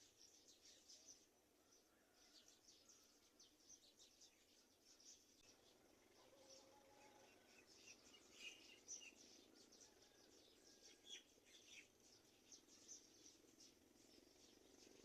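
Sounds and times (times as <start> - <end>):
faint birds chirping: 0.0 - 15.0
low steady hiss: 0.0 - 15.0.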